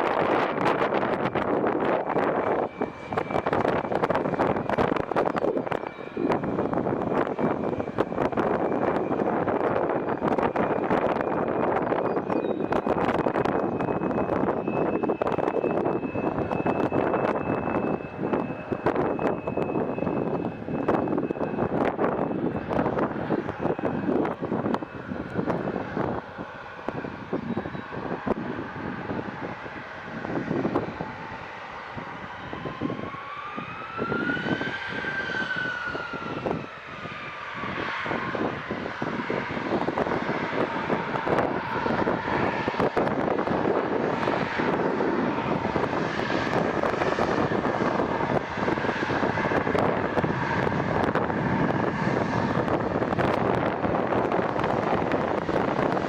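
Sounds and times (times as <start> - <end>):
airplane engine noise: 0.0 - 56.0
engine whine rising and falling: 0.0 - 56.0.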